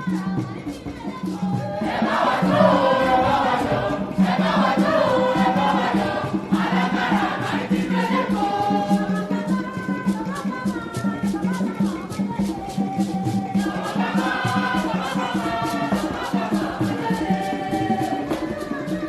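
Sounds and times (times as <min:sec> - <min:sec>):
group of voices singing: 0:00.0 - 0:19.0
shaker rhythm: 0:00.0 - 0:19.0.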